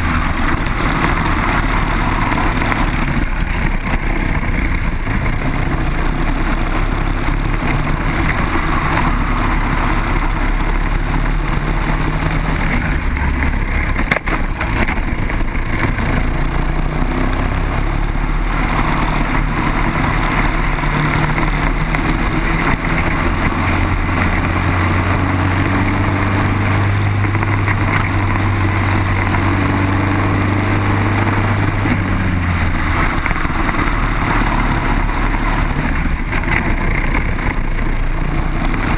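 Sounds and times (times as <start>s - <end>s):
kart engine racing: 0.0s - 38.9s
wind noise on microphone: 0.0s - 38.9s.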